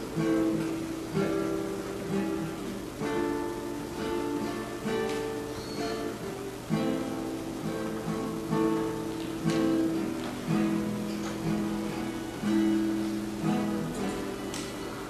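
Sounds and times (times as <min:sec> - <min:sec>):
acoustic guitar plucked slowly: 0:00.0 - 0:15.0.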